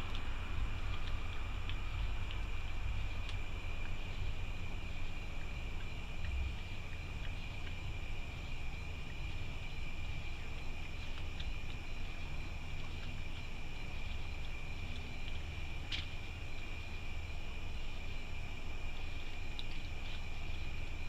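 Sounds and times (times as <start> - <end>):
low rumble: 0.0 - 19.5
night insects trilling: 0.0 - 21.0.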